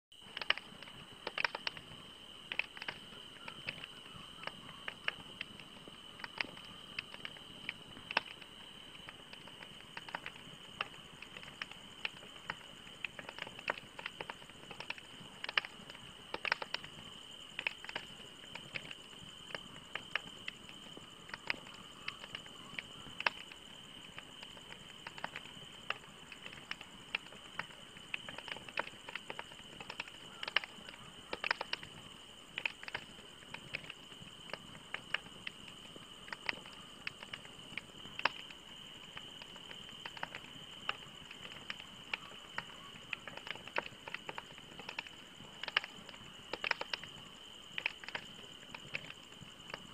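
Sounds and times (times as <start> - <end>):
wood fire crackling: 0.2 - 49.9.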